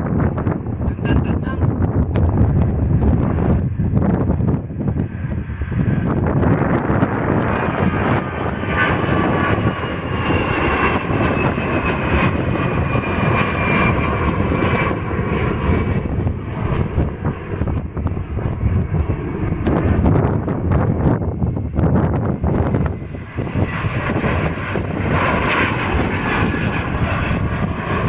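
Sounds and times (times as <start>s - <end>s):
airliner engines passing: 0.0s - 28.0s.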